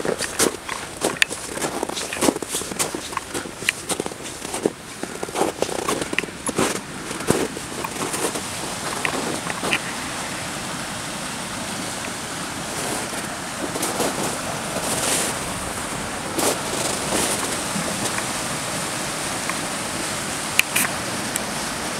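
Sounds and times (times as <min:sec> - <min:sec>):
fast-flowing water rushing: 0:00.0 - 0:21.9.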